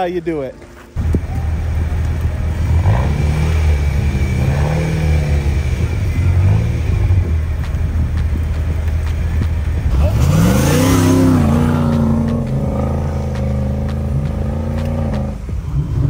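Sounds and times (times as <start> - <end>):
engine running and revving: 1.0 - 16.0.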